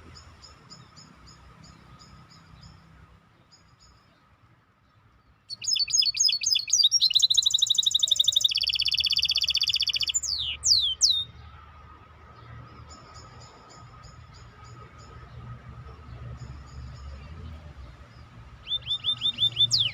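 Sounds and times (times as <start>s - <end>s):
songbird singing: 0.0s - 19.9s.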